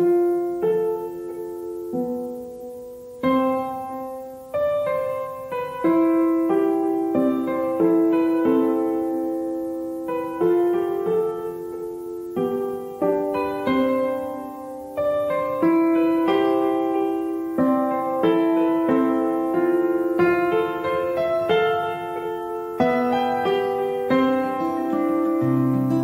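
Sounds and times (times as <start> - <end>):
piano notes and chords: 0.0 - 26.0.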